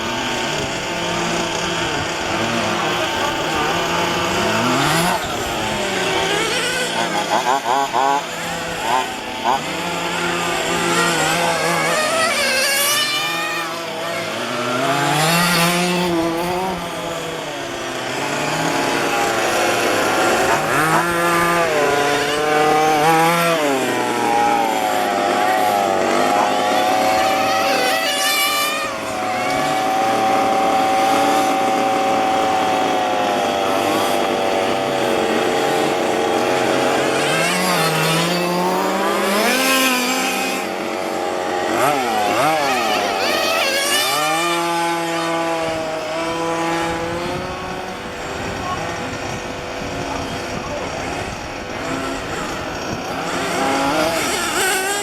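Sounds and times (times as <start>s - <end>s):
rc car engines revving: 0.0s - 55.0s.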